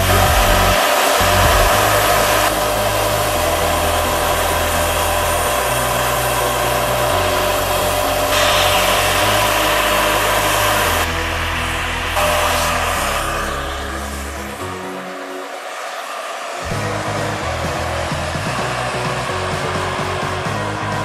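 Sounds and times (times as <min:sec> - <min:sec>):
model helicopter turbine whine: 0:00.0 - 0:21.0.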